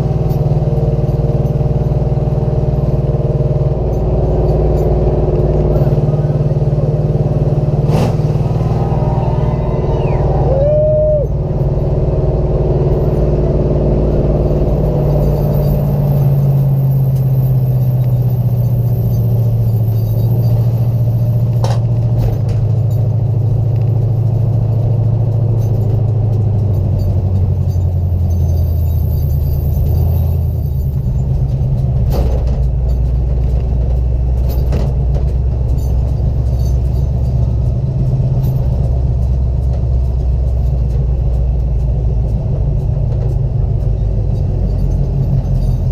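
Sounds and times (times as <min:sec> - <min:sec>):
race car engine running: 0:00.0 - 0:45.9.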